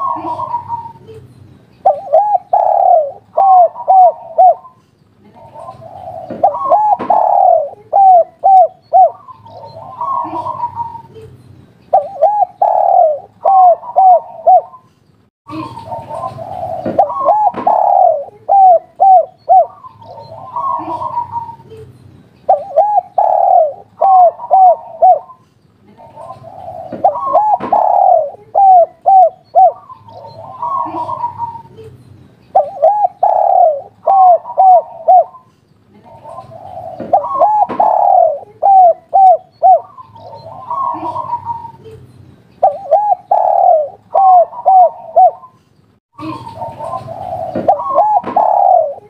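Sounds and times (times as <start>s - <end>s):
dove cooing: 0.0s - 1.2s, 1.8s - 11.3s, 11.9s - 14.9s, 15.5s - 21.9s, 22.5s - 25.4s, 26.0s - 31.9s, 32.5s - 41.9s, 42.6s - 45.6s, 46.2s - 49.0s.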